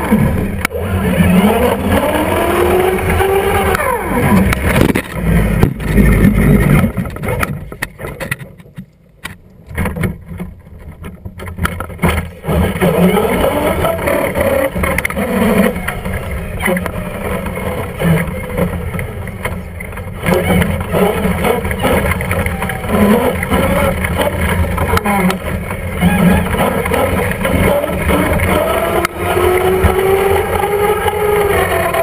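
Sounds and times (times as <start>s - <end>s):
rc truck motor whining: 0.0s - 6.2s, 12.4s - 32.0s.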